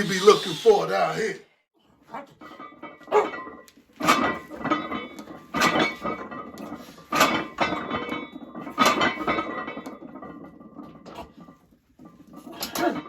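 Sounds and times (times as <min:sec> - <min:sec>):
metal gym weights clanking: 0:02.3 - 0:13.0.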